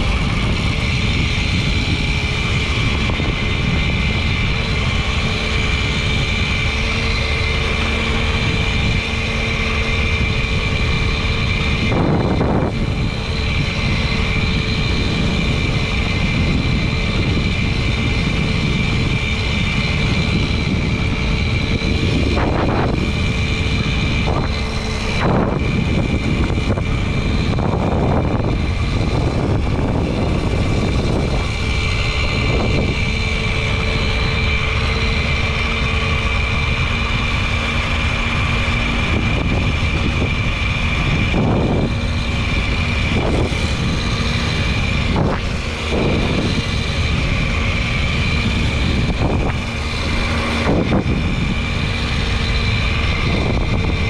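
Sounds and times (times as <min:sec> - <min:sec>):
moped engine running: 0:00.0 - 0:54.0
wind on microphone: 0:00.0 - 0:54.0.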